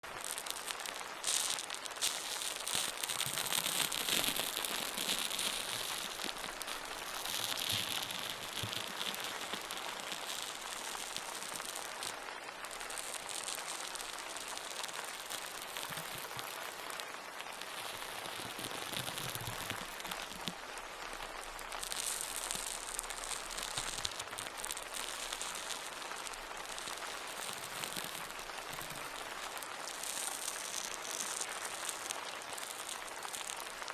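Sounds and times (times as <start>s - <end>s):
dense pattering crackling noise: 0.0s - 33.9s.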